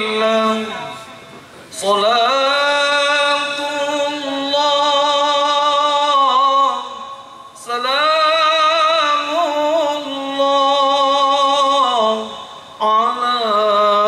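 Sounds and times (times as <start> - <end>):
man chanting devotional song: 0.0 - 14.0.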